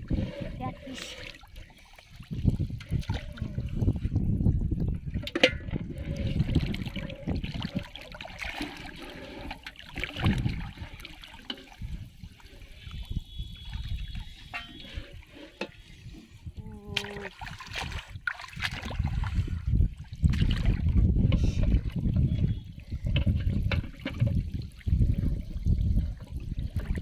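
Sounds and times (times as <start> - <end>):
floodwater sloshing and splashing: 0.0 - 27.0.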